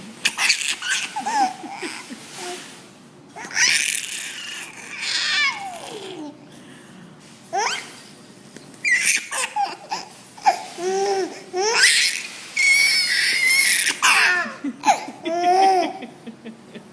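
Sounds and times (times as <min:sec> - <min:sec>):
baby laughing: 0:00.3 - 0:02.6, 0:03.4 - 0:06.4, 0:07.6 - 0:08.0, 0:08.9 - 0:16.9.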